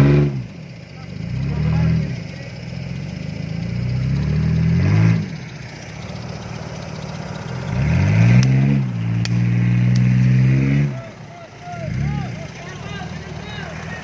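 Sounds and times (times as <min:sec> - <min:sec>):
engine revving under load: 0:00.0 - 0:14.0.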